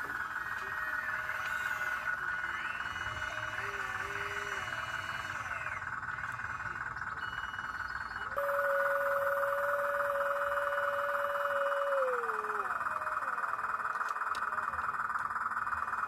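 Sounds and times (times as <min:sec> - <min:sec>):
frogs trilling: 0:00.0 - 0:16.0
small electric motor whine: 0:00.0 - 0:16.0.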